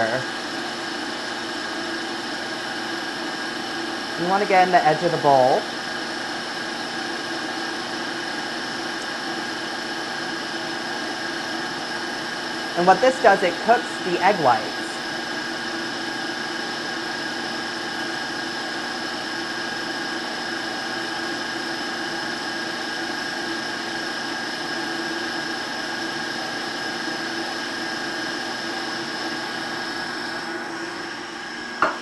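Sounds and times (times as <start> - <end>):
stand mixer whisking: 0.0 - 32.0.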